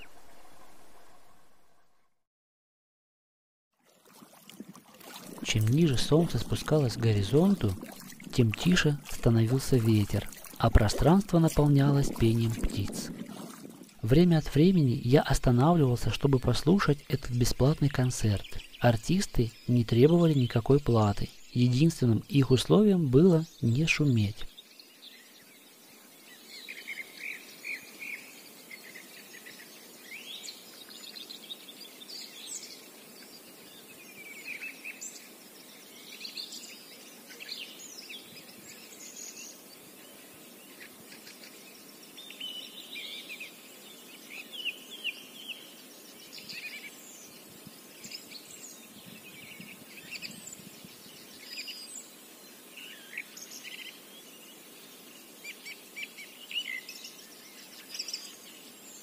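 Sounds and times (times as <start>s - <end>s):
faint steady hiss: 4.0s - 59.0s
songbirds chirping: 4.1s - 59.0s.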